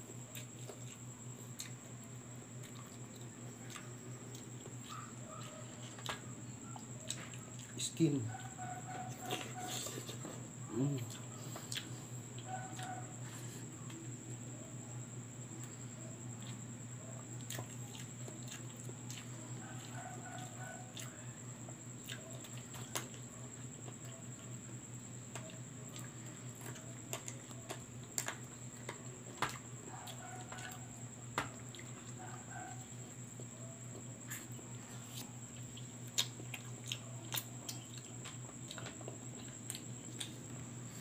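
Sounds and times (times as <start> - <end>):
steady low hum: 0.0 - 41.0
wet chewing: 0.2 - 14.0, 15.5 - 40.6.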